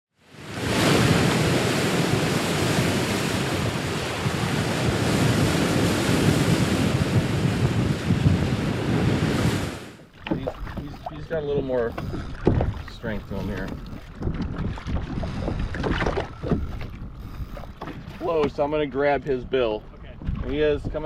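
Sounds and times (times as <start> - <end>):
sea waves: 0.1 - 21.0
rushing wind: 0.3 - 11.2, 12.0 - 18.2
wind buffeting microphone: 0.5 - 21.0.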